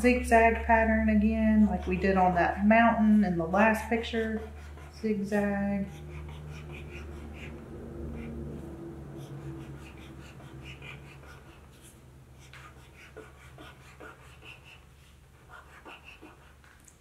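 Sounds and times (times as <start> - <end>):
marker scratching on paper: 0.1 - 7.6, 9.2 - 16.7.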